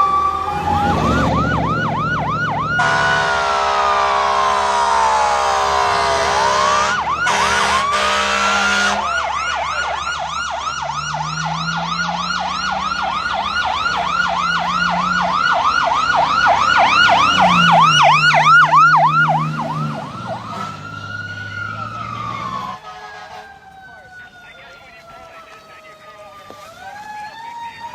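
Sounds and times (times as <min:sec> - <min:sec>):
fire truck air horn: 0:00.0 - 0:10.5, 0:11.5 - 0:25.8
siren wailing and yelping: 0:00.0 - 0:27.9.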